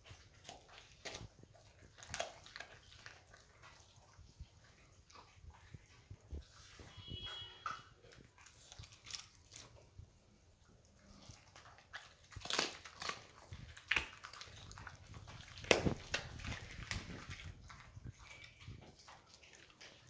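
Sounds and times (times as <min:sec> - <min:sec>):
dog wet chewing: 0:00.0 - 0:06.9, 0:07.6 - 0:20.0.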